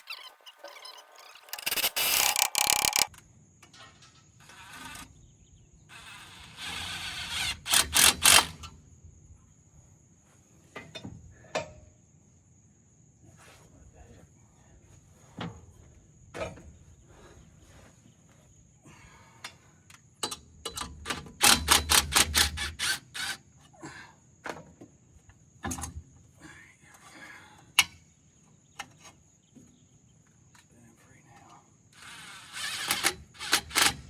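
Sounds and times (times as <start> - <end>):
insect trill: 0.0 - 34.0.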